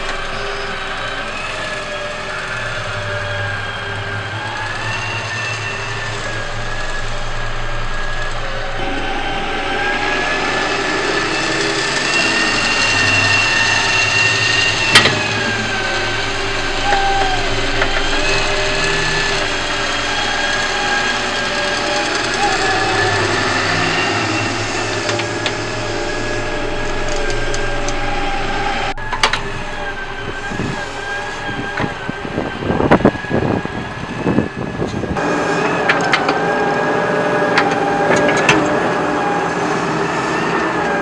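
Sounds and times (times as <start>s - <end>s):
toy excavator electric motors whining: 0.0s - 41.0s.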